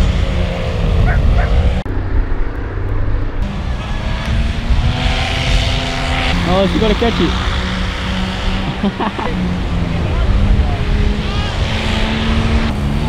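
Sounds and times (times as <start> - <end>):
paramotor engine droning: 0.0 - 13.0
wind rumble on microphone: 0.0 - 13.0.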